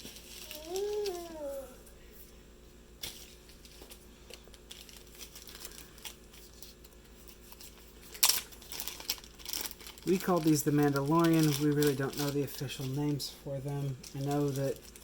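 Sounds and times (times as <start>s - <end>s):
packaging crinkling and rustling: 0.0s - 1.4s, 3.0s - 15.0s.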